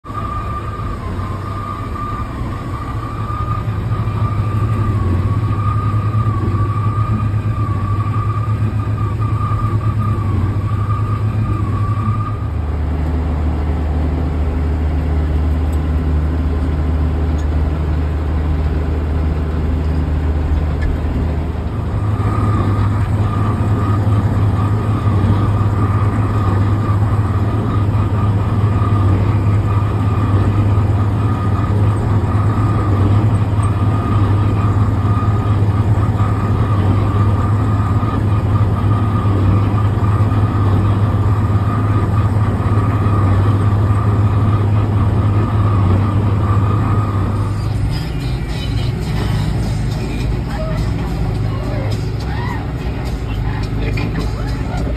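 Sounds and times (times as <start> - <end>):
steady whine: 0.0 - 54.9
tractor diesel engine running: 0.0 - 54.9.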